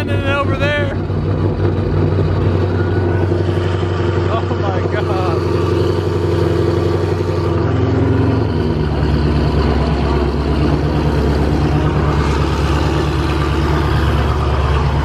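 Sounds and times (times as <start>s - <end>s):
loud car engines droning: 0.0s - 15.0s.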